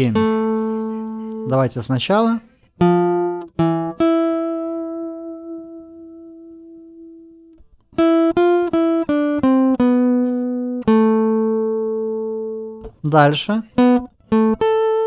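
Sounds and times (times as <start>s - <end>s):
acoustic guitar melody: 0.0s - 15.0s.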